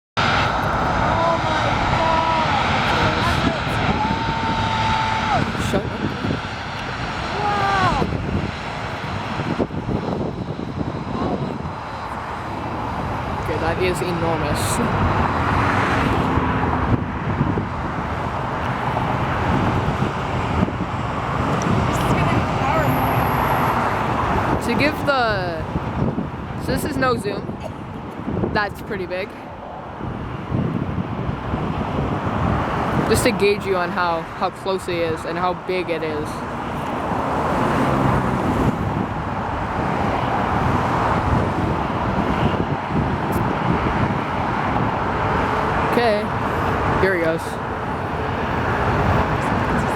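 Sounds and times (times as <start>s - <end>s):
jet engines rumbling: 0.2s - 49.9s.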